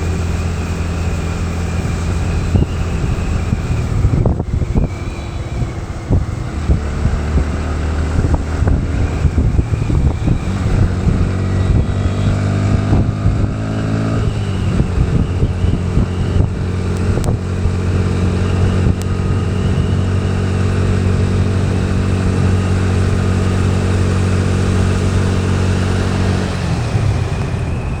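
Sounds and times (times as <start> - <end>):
motorcycle engine accelerating: 0.0 - 28.0
wind and road noise: 0.0 - 28.0.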